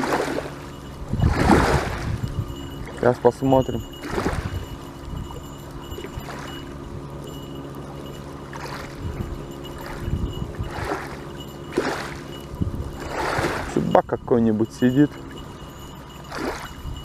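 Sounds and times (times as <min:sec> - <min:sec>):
small waves lapping at bank: 0:00.0 - 0:17.0
steady low hum: 0:00.0 - 0:17.0.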